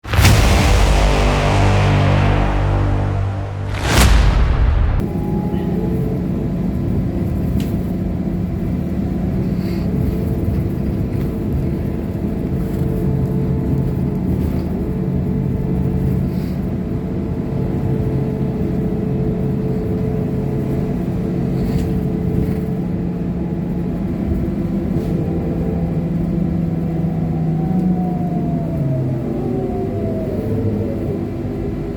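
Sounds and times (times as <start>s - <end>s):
trolleybus running rumble: 5.2s - 31.9s.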